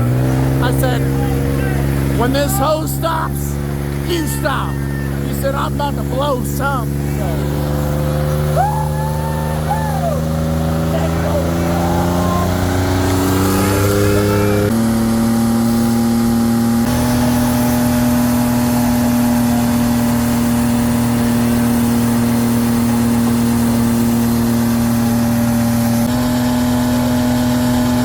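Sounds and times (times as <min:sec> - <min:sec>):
engine revving high: 0:00.0 - 0:28.0.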